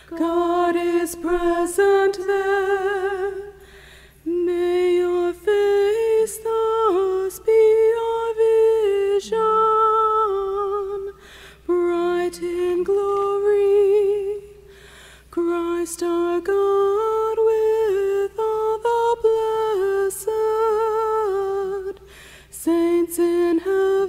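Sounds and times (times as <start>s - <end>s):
woman singing a hymn: 0.0s - 14.7s, 15.3s - 24.0s.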